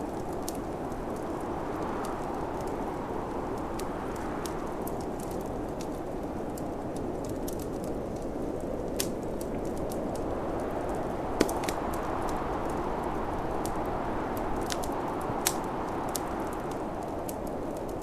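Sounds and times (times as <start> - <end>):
snowstorm wind rushing: 0.0 - 18.0
wood fire crackling and popping: 0.0 - 18.0.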